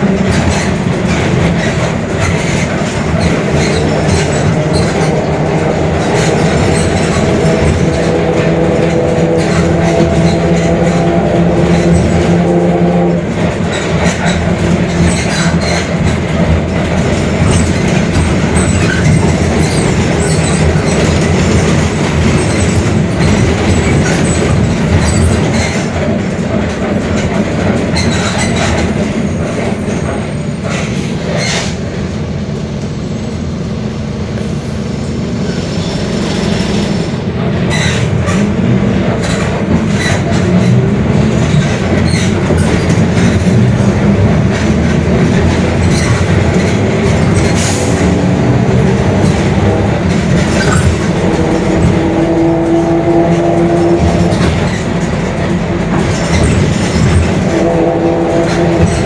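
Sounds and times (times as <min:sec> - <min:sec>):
bus engine and drivetrain running: 0:00.0 - 0:59.0
road rumble: 0:00.0 - 0:59.0.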